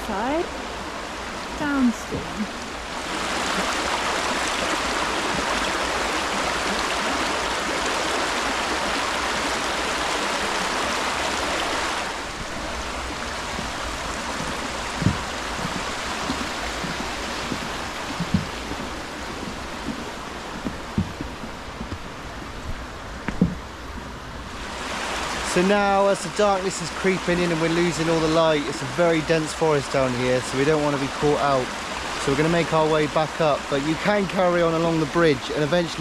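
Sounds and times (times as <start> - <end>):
river rushing over rocks: 0.1 - 36.0.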